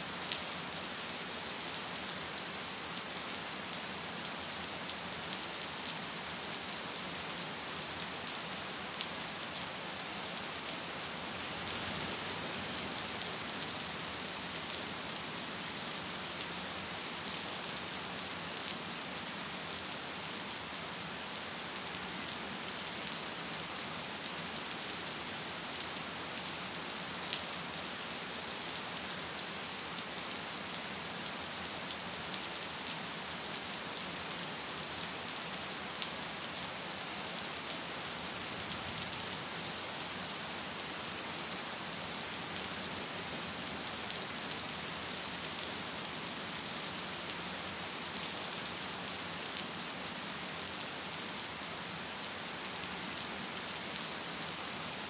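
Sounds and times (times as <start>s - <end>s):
gentle rain: 0.0s - 55.0s.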